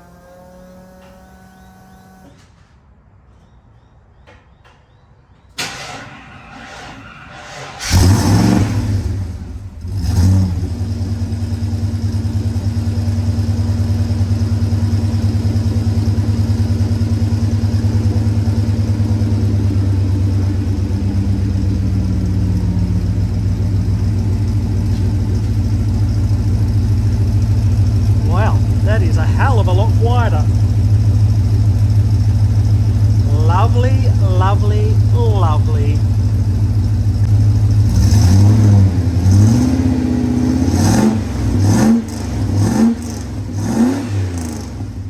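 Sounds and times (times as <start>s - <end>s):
car engine revving: 0.0s - 2.3s, 5.6s - 45.0s
car engine starting: 5.5s - 45.0s
car engine idling: 5.6s - 45.0s.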